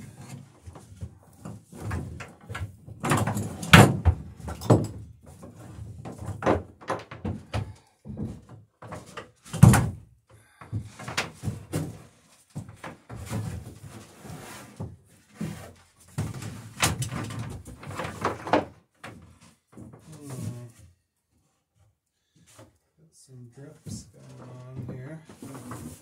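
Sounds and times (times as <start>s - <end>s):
wooden knocks and clatter: 0.0s - 20.1s, 23.8s - 26.0s.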